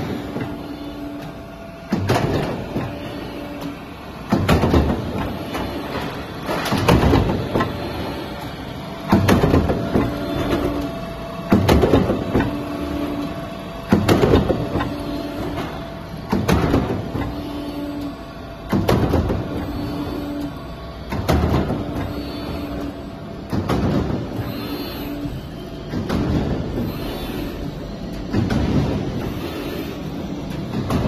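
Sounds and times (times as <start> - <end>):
roll forming machine hum: 0.0 - 31.0.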